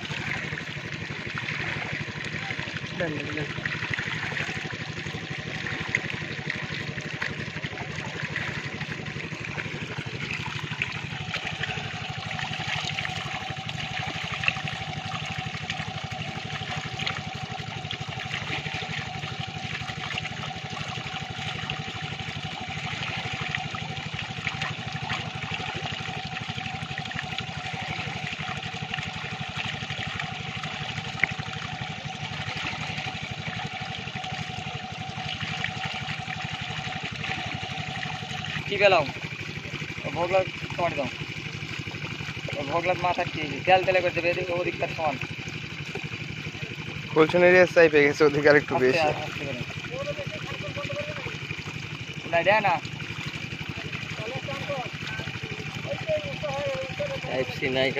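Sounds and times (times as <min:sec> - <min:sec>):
small splashes of fish: 0:00.0 - 0:57.9
water running and pouring: 0:00.0 - 0:57.9.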